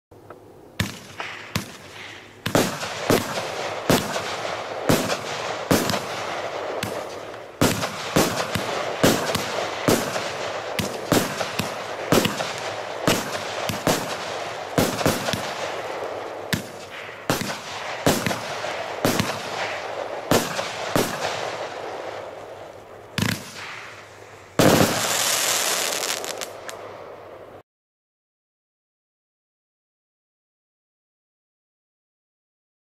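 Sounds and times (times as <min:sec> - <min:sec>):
firework hissing and crackling: 0:00.8 - 0:27.4
firework shots: 0:00.8 - 0:27.5.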